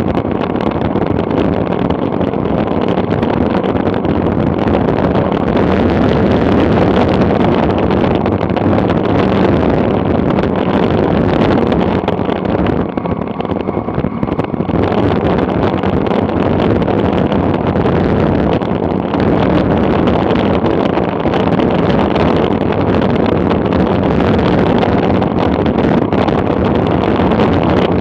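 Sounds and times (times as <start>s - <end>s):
wind roaring over microphone: 0.0s - 28.0s.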